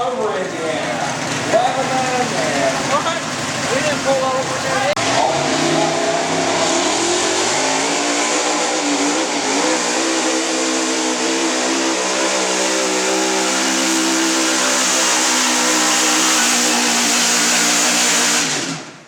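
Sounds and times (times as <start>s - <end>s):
truck engine running at high revs: 0.0s - 19.0s.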